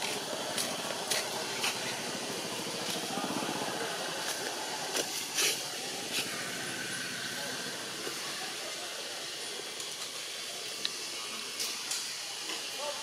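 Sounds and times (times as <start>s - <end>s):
hissing forest background: 0.0s - 13.0s.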